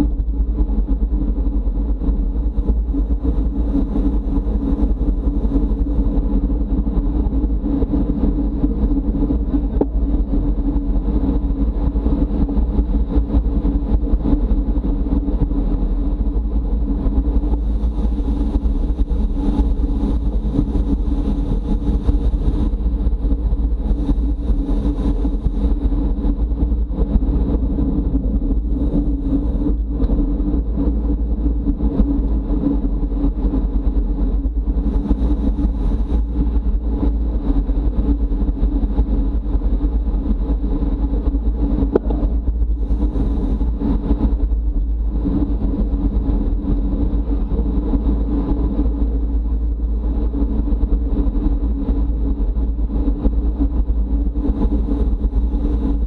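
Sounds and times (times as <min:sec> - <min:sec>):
steady hum: 0:00.0 - 0:56.0
wind rush: 0:00.0 - 0:56.0.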